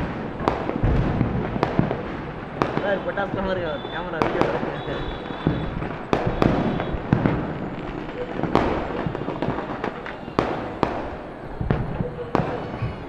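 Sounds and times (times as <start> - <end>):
firecrackers bursting: 0.0 - 13.0.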